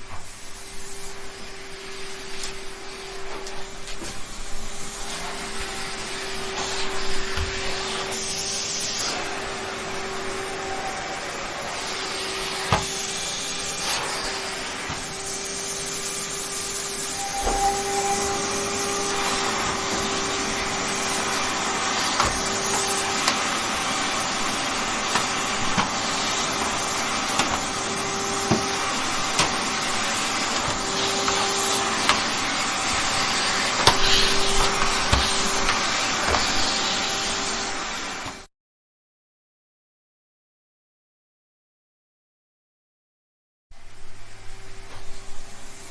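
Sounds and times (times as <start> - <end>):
vacuum cleaner running: 0.0 - 38.5, 43.8 - 45.9.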